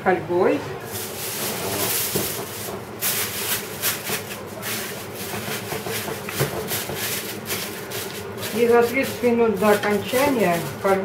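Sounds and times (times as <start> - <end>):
aluminium foil crinkling: 0.9 - 11.0.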